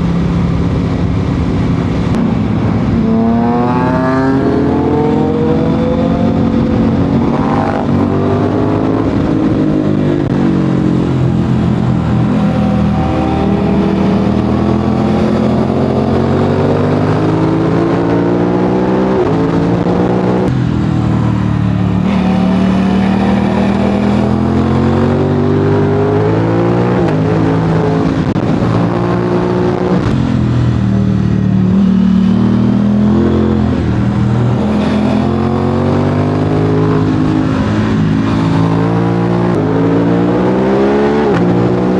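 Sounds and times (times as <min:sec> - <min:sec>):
motorcycle engine revving: 0:01.8 - 0:41.9.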